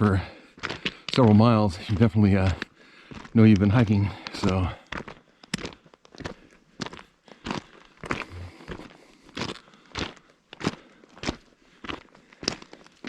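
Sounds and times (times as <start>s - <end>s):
footsteps crunching on gravel: 0.0s - 13.0s.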